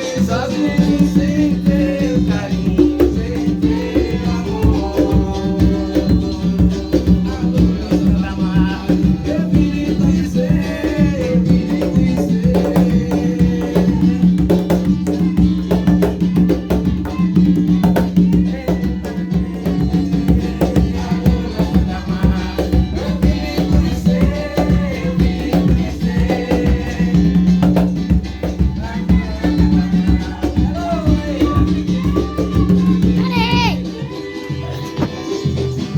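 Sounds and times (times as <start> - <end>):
rattle shaker: 0.0 - 8.7, 14.9 - 35.9
hand drums: 0.0 - 35.9.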